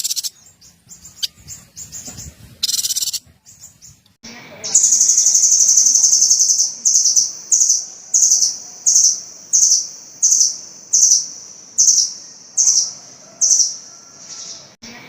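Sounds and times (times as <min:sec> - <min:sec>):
songbird buzzy trilled notes: 0:00.0 - 0:13.7.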